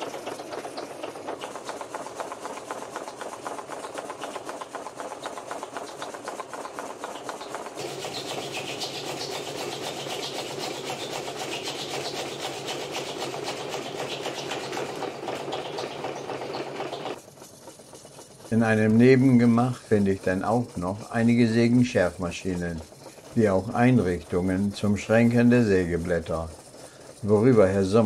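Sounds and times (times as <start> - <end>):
low machine hum: 0.0 - 28.0
saw cutting through log: 0.0 - 28.0.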